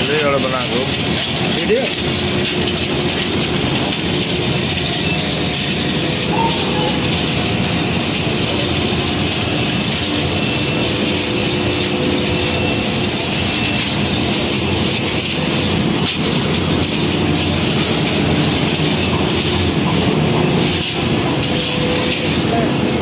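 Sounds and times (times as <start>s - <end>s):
heavy machinery rattling: 0.0s - 23.0s.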